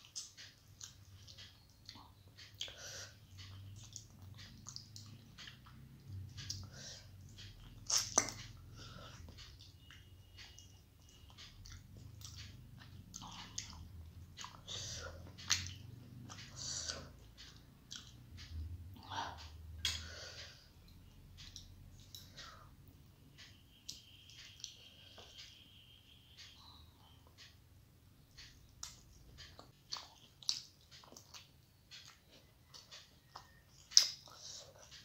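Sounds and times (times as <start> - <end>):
chewing food with wet smacks: 0.0 - 35.0.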